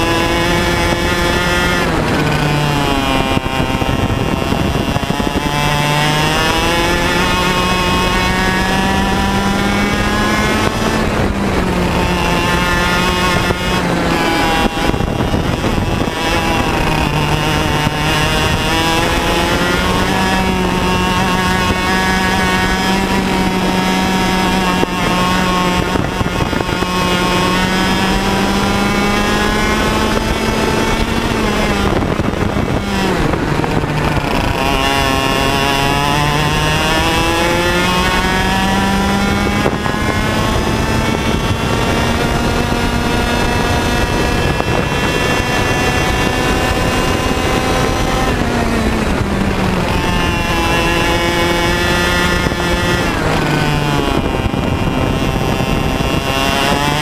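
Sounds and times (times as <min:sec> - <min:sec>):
kart engine running at speed: 0:00.0 - 0:57.0.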